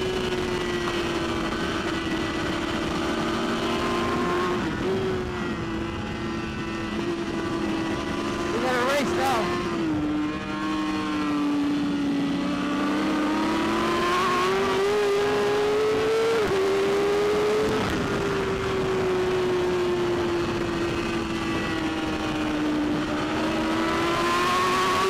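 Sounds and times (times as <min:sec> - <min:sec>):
motorcycle engine at high revs: 0:00.0 - 0:25.0
wind noise: 0:00.0 - 0:25.0.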